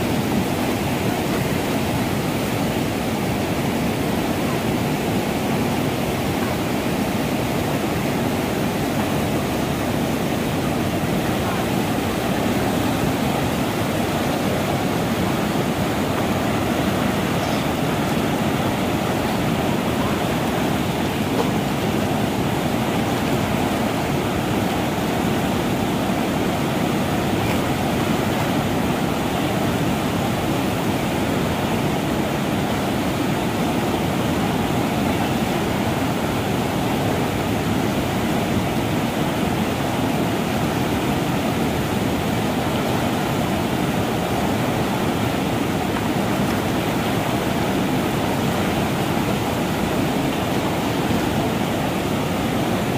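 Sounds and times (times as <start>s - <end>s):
whitewater rapids rushing: 0.0s - 52.9s.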